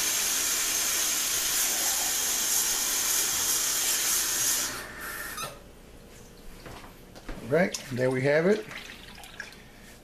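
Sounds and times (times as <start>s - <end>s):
water running: 0.0s - 4.8s, 6.2s - 10.0s.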